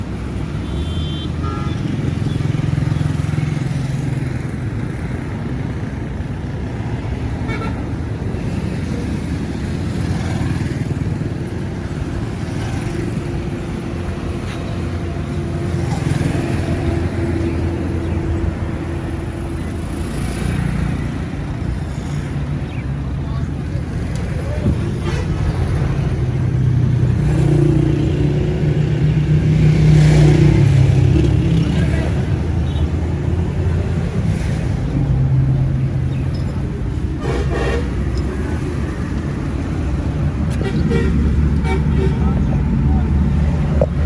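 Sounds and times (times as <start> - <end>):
traffic engines rumbling: 0.0 - 44.0.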